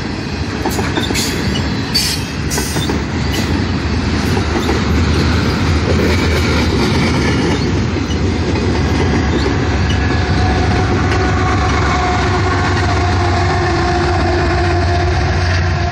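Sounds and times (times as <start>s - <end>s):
railcars rumbling on rails: 0.0s - 15.9s.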